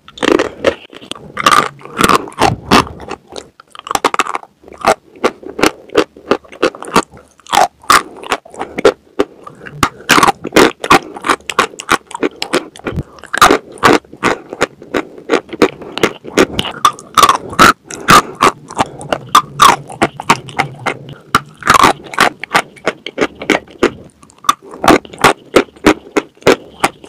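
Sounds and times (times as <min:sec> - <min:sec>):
chewing crunchy chalk: 0:00.1 - 0:27.0.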